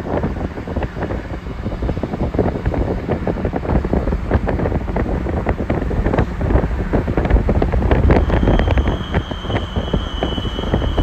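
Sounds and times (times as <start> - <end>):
car road noise rumbling: 0.0 - 11.0
wind buffeting microphone: 0.0 - 11.0.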